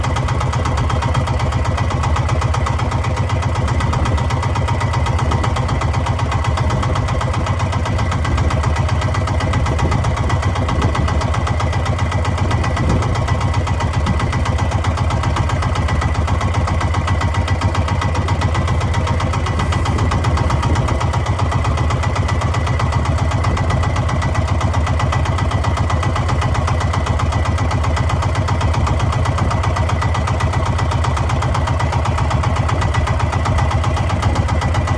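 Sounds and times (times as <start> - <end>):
boat engine throbbing: 0.0 - 34.9.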